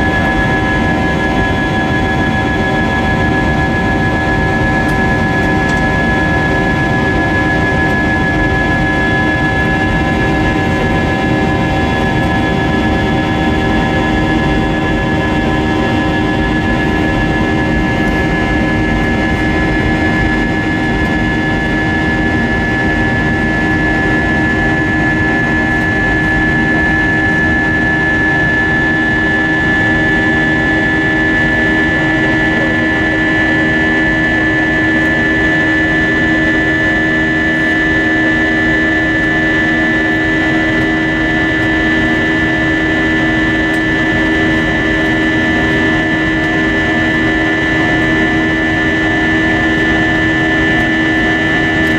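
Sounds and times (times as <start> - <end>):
high engine whine: 0.0 - 51.9
jet engine drone in cabin: 0.0 - 51.9.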